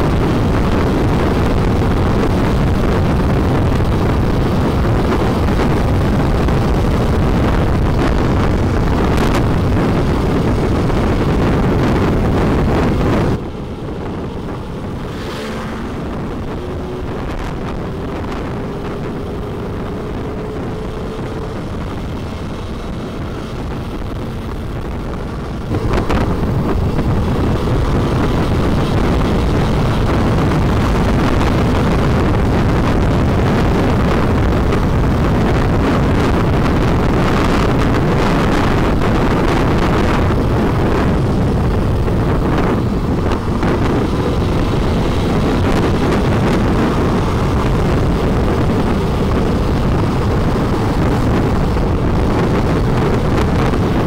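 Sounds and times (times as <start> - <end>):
motorcycle running: 0.0 - 54.0
wind rushing over microphone: 0.0 - 54.0.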